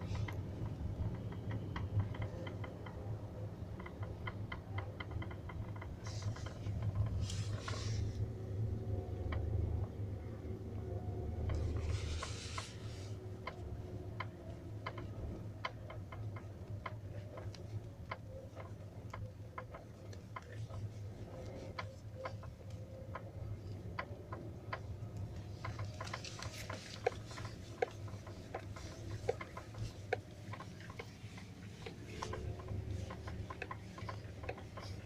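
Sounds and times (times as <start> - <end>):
light knocking and ticking: 0.0 - 35.0
steady low hum: 0.0 - 35.0.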